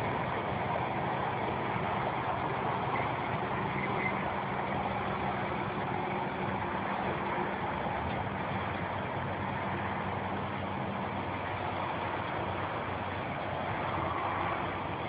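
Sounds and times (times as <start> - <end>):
muddy water rushing over sand: 0.0 - 15.0.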